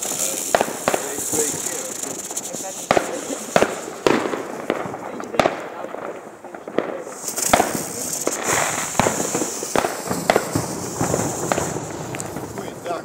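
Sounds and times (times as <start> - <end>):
fireworks and firecrackers banging: 0.0 - 13.0
steady high hiss: 0.0 - 13.0.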